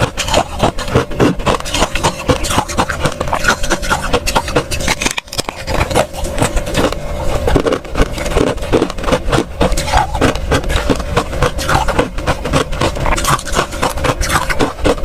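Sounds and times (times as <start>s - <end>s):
faint steady hum: 0.0s - 15.0s
frost crunching and crackling: 0.0s - 15.0s.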